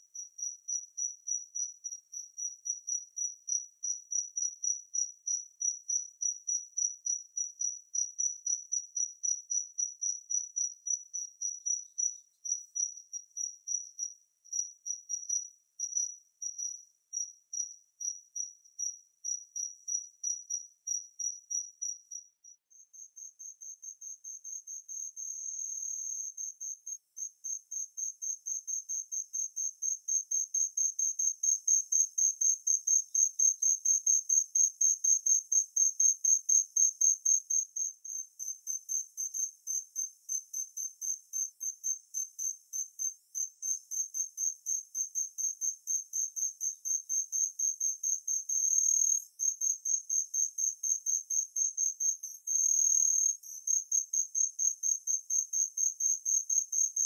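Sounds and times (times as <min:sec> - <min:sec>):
cricket chirping and trilling: 0:00.0 - 0:57.0.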